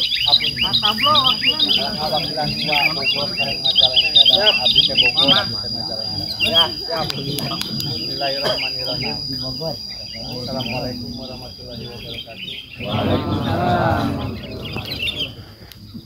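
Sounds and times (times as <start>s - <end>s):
high-pitched insect drone: 0.0s - 12.8s
birds chirping: 0.0s - 16.0s.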